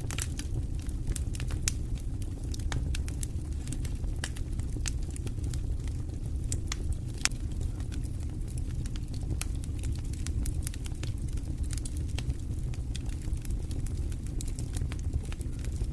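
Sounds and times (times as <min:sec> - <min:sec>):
fire crackles and pops: 0:00.0 - 0:15.9
wood fire rumbling: 0:00.0 - 0:15.9.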